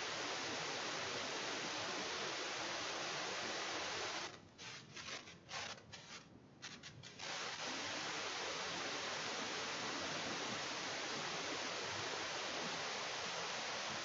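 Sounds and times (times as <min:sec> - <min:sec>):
recording hiss: 0:00.0 - 0:14.0.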